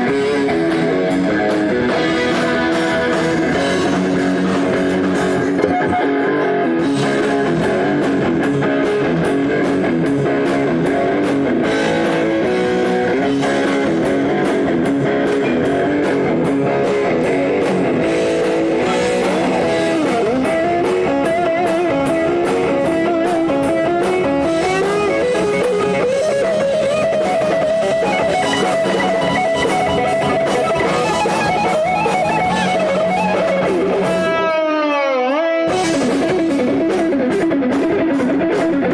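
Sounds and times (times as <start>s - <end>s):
electric guitar lead line: 0.0s - 38.9s
rock band playing live: 0.0s - 38.9s.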